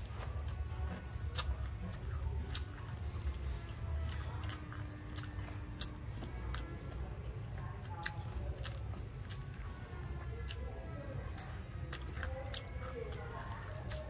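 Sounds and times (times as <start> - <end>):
low steady hum: 0.0 - 14.0
person crunching food: 0.0 - 14.0.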